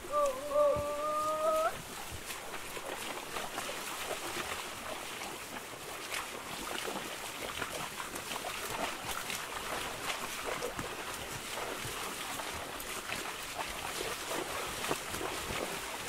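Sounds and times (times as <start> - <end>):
hooves splashing in water: 0.0 - 16.0
rushing stream water: 0.0 - 16.0.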